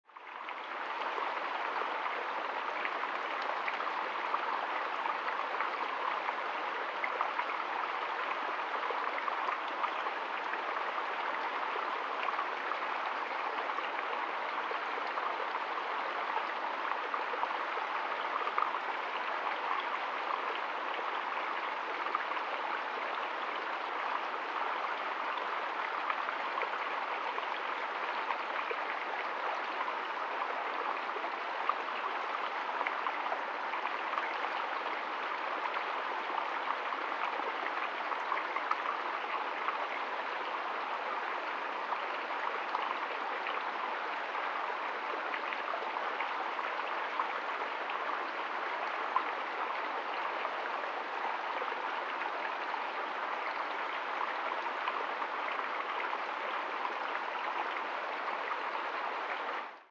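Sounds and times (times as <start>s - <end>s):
stream trickling into pool: 0.0s - 59.9s.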